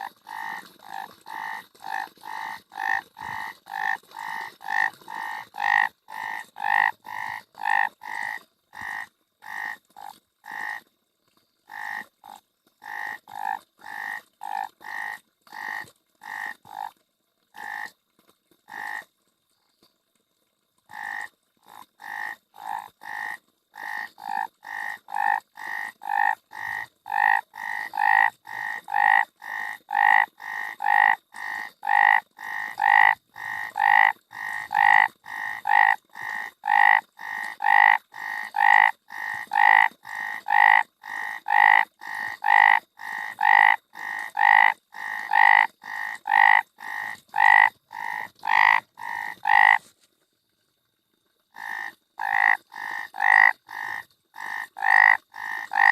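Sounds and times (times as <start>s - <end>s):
frog croaking: 0.0s - 10.9s, 11.6s - 18.0s, 18.7s - 19.1s, 20.9s - 49.9s, 51.5s - 55.9s.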